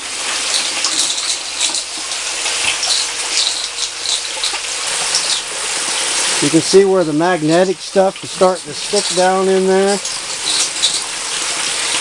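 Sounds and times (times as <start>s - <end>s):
water running through sluice: 0.0s - 12.0s.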